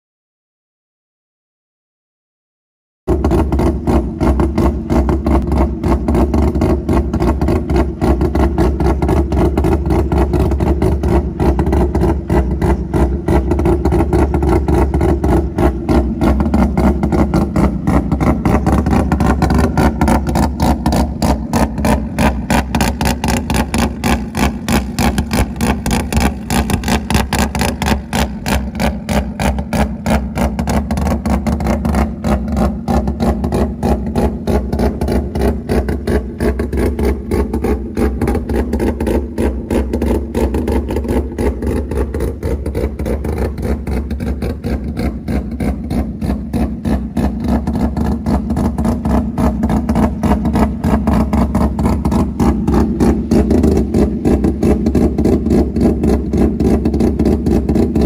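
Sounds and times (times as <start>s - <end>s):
rotary engine idling: 3.1s - 58.0s.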